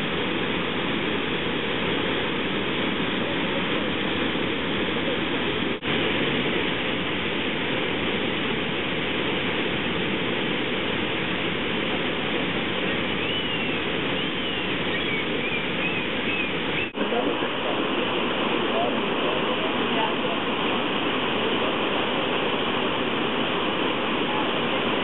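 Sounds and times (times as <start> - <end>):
white water rushing: 0.0 - 25.0.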